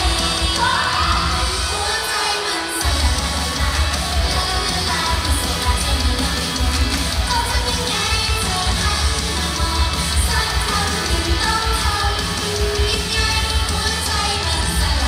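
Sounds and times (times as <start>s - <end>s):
pop singing over backing track: 0.0s - 15.0s.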